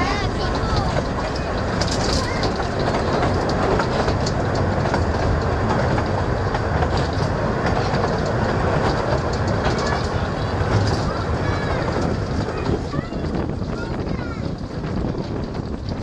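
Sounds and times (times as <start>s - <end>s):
train wheels rumbling on track: 0.0s - 16.0s
wheels clacking over rail joints: 0.0s - 16.0s.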